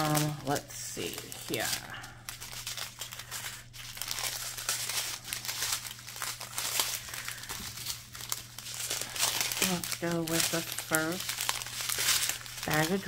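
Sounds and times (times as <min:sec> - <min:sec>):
small plastic bags crinkling: 0:00.0 - 0:13.0.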